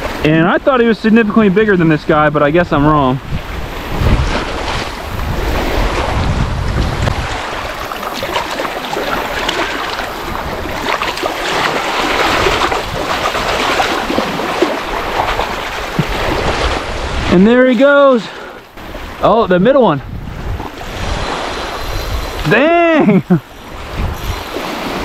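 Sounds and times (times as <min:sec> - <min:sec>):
wind rumbling on microphone: 0:00.0 - 0:17.6, 0:18.3 - 0:25.0
lake water lapping: 0:00.0 - 0:25.0.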